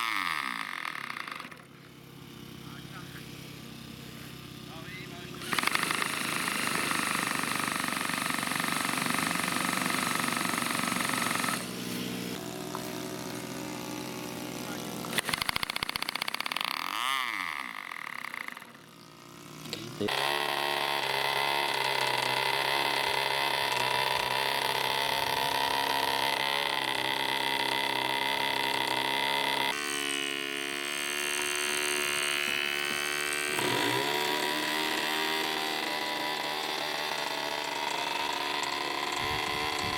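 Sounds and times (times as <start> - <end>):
model aircraft engines buzzing: 0.0 - 39.9.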